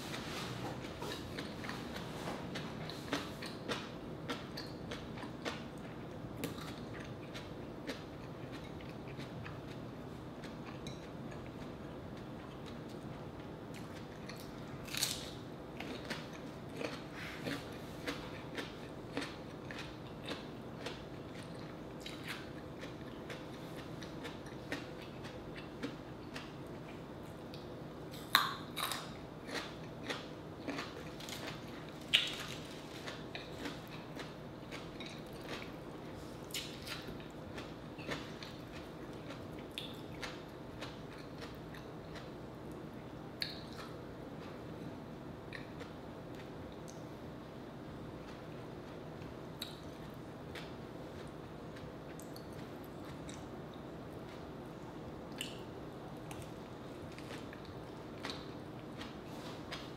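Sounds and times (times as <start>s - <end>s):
faint steady hum: 0.0s - 59.9s
chewing with wet mouth clicks: 2.6s - 9.8s, 10.4s - 15.2s, 15.8s - 27.7s, 28.3s - 42.8s, 43.4s - 44.6s, 49.6s - 54.4s, 55.3s - 59.9s.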